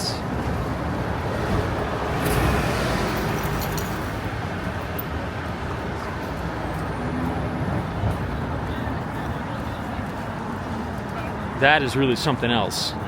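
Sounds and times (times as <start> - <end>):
cars passing on street: 0.0 - 13.0.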